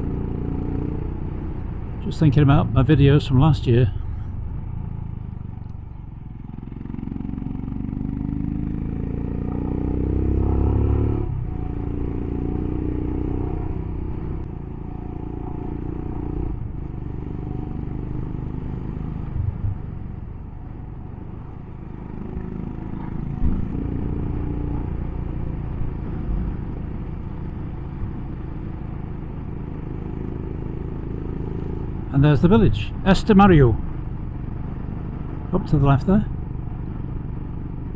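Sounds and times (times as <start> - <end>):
motorcycle engine accelerating: 0.0 - 37.9
road and wind noise: 0.0 - 37.9.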